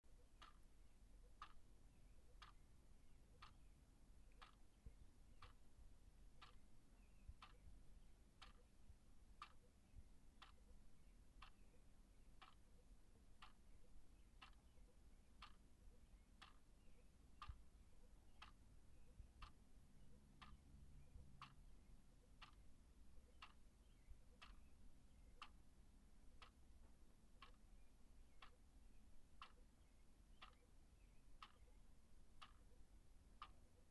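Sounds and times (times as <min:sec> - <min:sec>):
wall clock ticking: 0:00.1 - 0:33.9.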